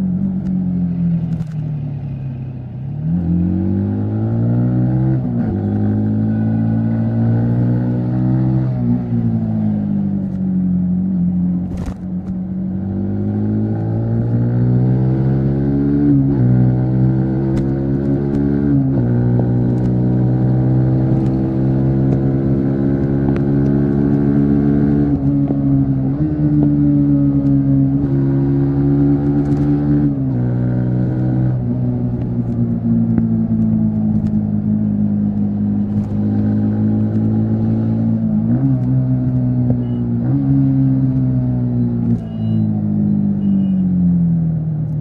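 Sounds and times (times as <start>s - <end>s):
wind and road rumble: 0.0s - 45.0s
motorcycle engine revving: 3.2s - 43.8s.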